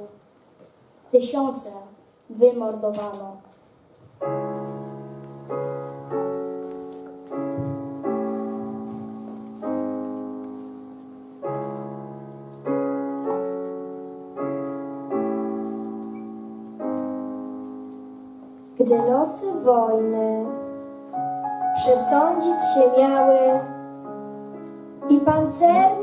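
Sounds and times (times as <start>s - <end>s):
slow piano chords: 4.0s - 26.0s.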